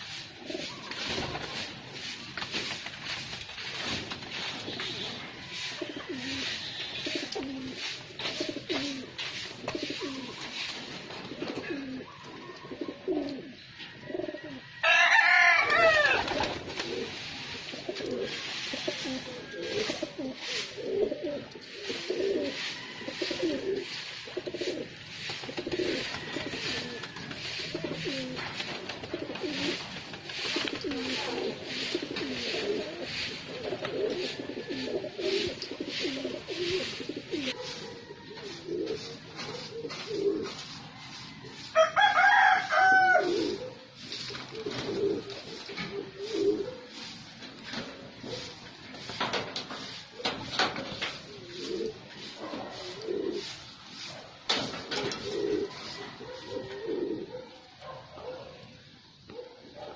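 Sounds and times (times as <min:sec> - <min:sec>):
pigeons cooing: 0:00.0 - 0:14.8, 0:15.7 - 0:58.5
high-pitched pigeon call: 0:00.0 - 0:57.4.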